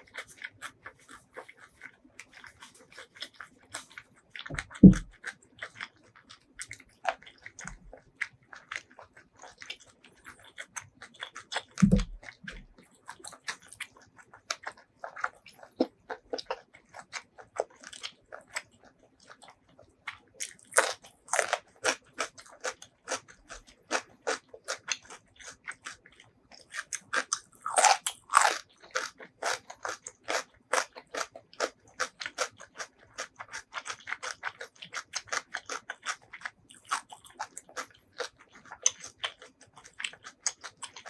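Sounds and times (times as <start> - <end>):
close chewing of food: 0.0 - 41.0.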